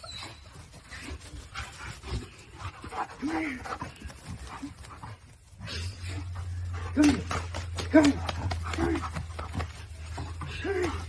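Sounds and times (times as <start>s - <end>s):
dog panting: 0.2s - 11.0s.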